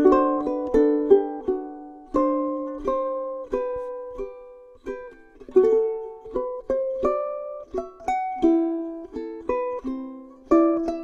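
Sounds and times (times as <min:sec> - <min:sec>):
ukulele plucked notes and chords: 0:00.0 - 0:11.0.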